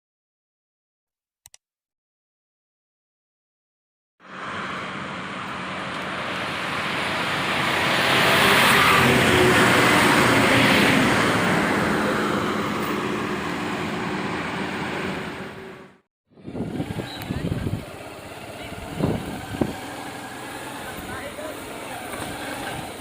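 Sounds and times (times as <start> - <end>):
vehicle passing: 4.2 - 23.0.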